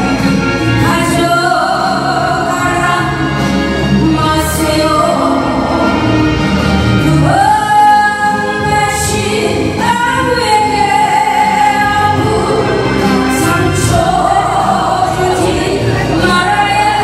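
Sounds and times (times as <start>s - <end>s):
woman singing into a microphone: 0.0s - 6.2s, 7.0s - 17.0s
musical accompaniment: 0.0s - 17.0s.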